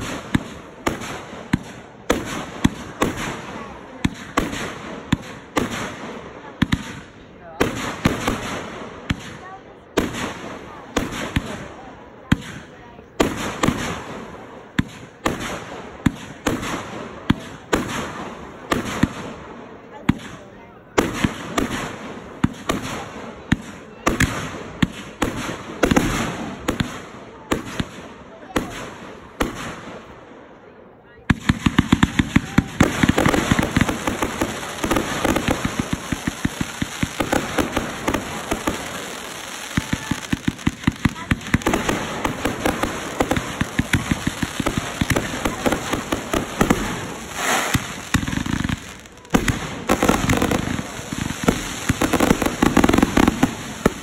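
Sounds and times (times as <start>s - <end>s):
firework crackle: 0.0s - 20.4s, 21.0s - 30.1s, 31.3s - 54.0s
firework bangs: 0.0s - 30.2s, 31.2s - 54.0s.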